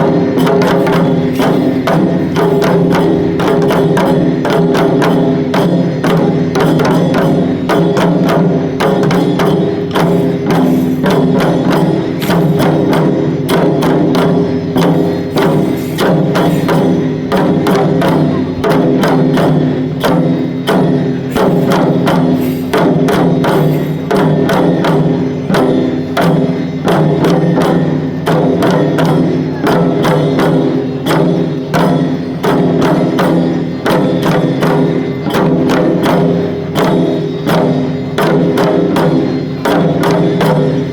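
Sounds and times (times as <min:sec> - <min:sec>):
drum beaten fast: 0:00.0 - 0:40.9.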